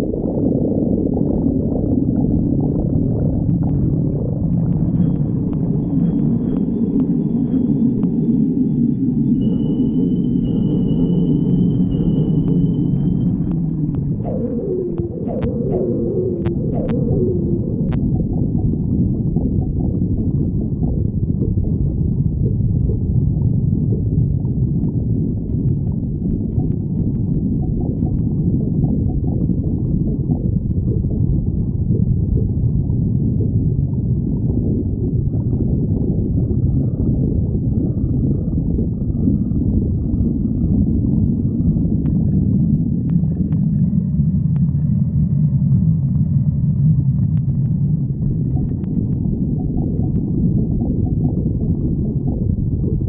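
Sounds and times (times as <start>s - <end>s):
stomach growling and gurgling: 0.0s - 53.0s.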